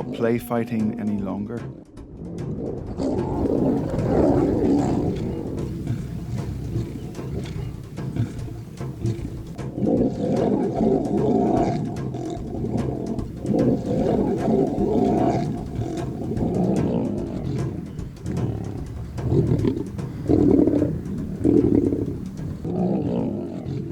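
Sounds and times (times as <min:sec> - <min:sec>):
lions snarling and growling: 0:01.7 - 0:23.9.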